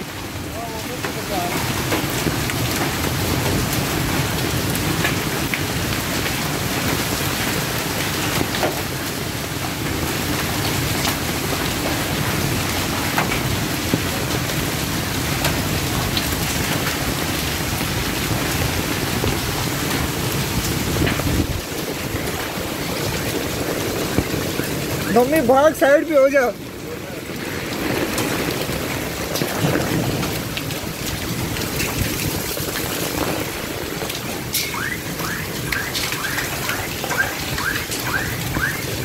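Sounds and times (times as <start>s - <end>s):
hailstones ticking on surfaces: 0.0s - 39.0s
heavy rain: 0.0s - 39.0s.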